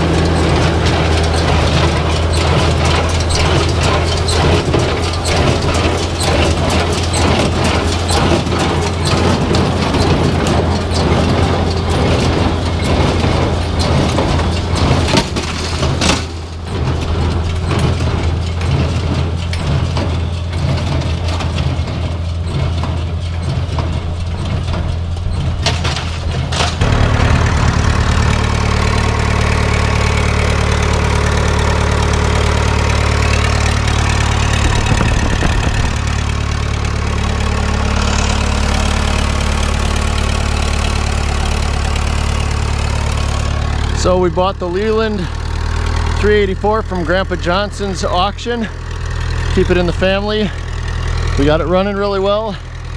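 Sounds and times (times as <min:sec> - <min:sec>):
hay baler clattering: 0:00.0 - 0:52.9
tractor engine idling: 0:00.0 - 0:52.9.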